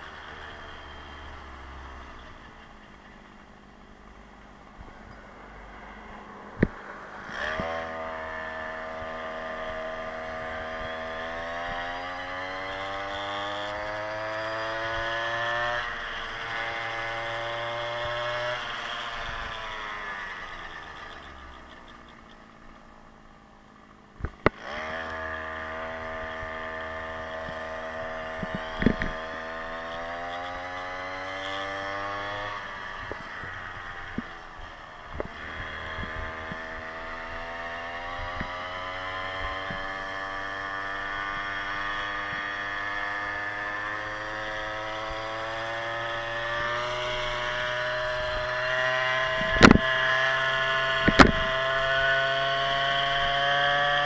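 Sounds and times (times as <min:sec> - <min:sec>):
scooter engine accelerating: 0:00.0 - 0:54.0.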